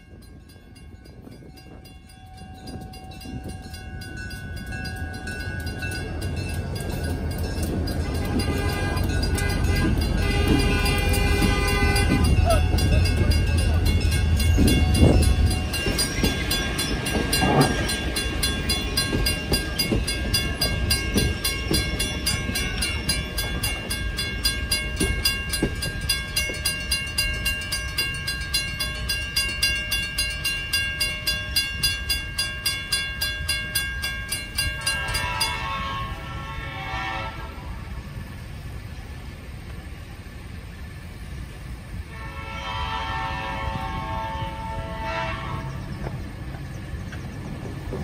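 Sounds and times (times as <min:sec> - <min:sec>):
railroad crossing bell ringing: 0:00.0 - 0:48.0
train rumbling past: 0:00.0 - 0:48.0.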